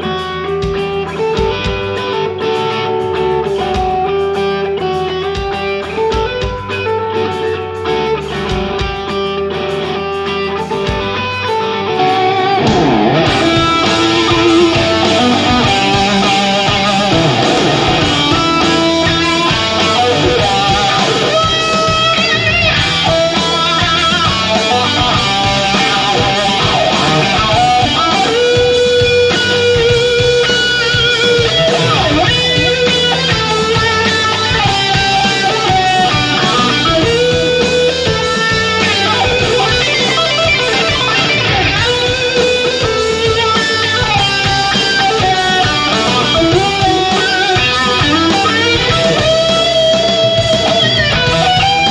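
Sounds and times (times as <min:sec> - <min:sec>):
electric guitar lead melody: 0:00.0 - 0:51.9
heavy rock band backing: 0:00.0 - 0:51.9.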